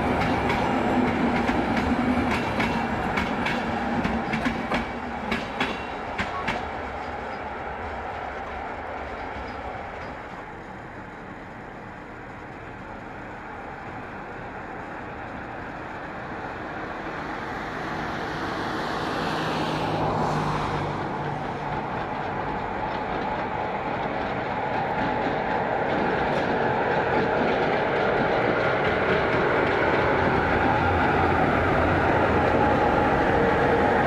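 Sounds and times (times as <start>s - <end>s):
passenger train running noise: 0.0s - 34.0s.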